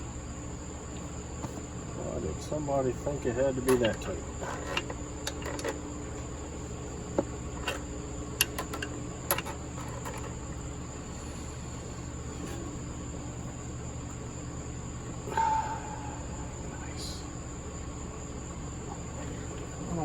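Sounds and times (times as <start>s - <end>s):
crickets chirring: 0.0s - 20.0s
low hum: 3.8s - 20.0s.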